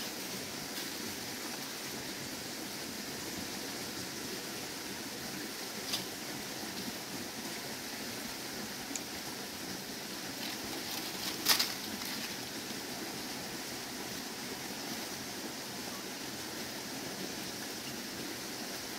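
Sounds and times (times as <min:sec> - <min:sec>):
outdoor background hiss: 0:00.0 - 0:18.9.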